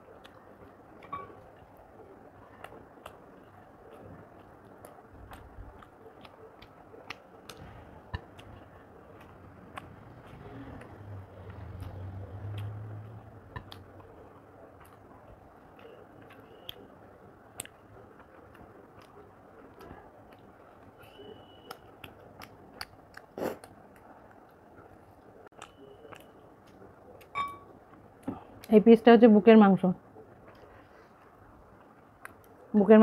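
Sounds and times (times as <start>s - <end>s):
soft chewing: 0.0s - 28.8s, 30.0s - 32.7s.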